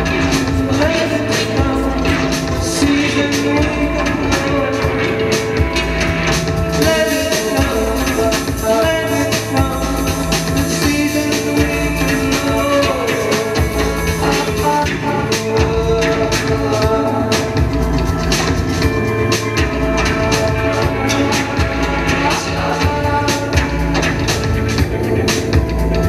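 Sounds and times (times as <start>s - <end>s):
organ-like keyboard tones: 0.0s - 26.0s
steady drum beat: 0.0s - 26.0s.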